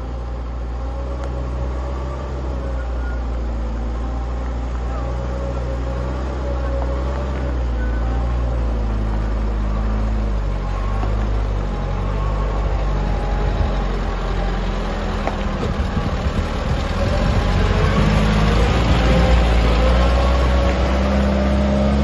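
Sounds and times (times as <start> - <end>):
diesel truck engine drone: 0.0 - 22.0.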